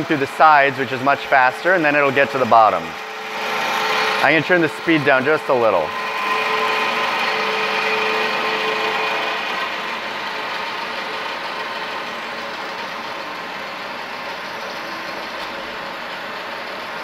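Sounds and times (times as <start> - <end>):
bandsaw cutting metal tubing: 0.0 - 17.0.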